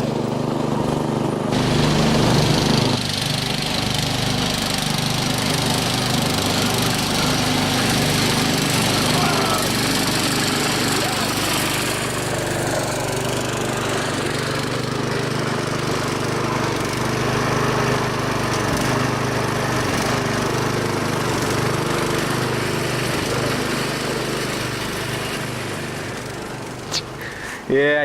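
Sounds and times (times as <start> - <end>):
lawn tractor engine running: 0.0 - 28.0.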